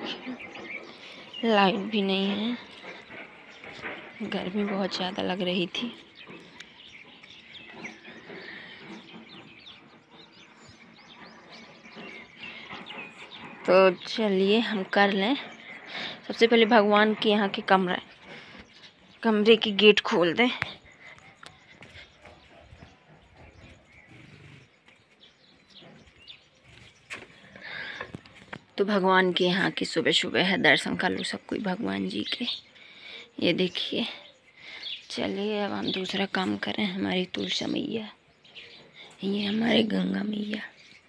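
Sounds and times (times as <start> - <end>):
birds chirping: 0.0 - 41.0
faint outdoor background noise: 0.0 - 41.0.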